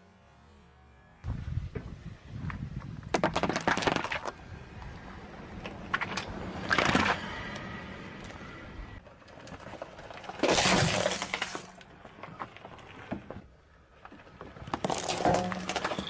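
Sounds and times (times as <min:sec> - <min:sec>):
objects crunching under tyre: 0:02.4 - 0:16.0.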